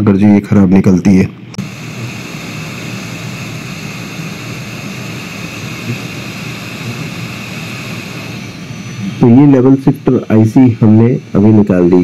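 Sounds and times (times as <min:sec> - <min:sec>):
hot-air gun blowing: 0:01.6 - 0:12.0.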